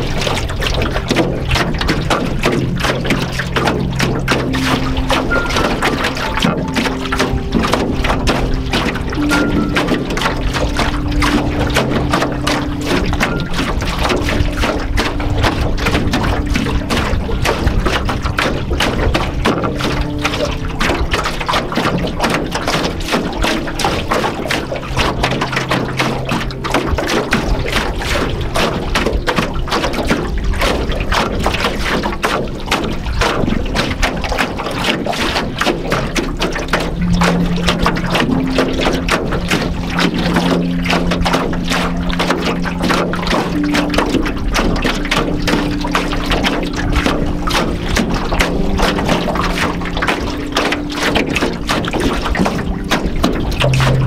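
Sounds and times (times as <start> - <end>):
ambient synth pad: 0.0 - 54.0
waves lapping against hull: 0.0 - 54.0.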